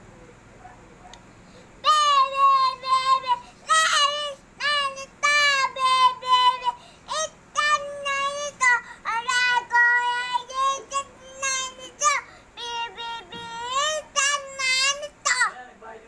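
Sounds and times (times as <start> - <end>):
boy singing folk song: 1.8 - 15.7.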